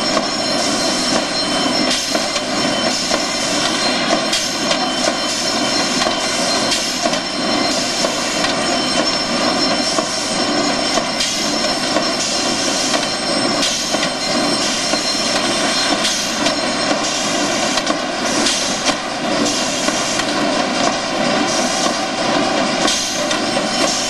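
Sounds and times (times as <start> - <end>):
box-making machine running: 0.0 - 24.0.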